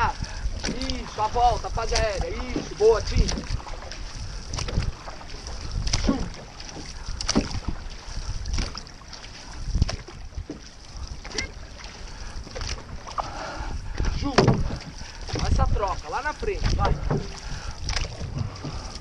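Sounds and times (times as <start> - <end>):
paddles pulling through water: 0.0 - 19.0
wind rumbling on microphone: 0.0 - 19.0.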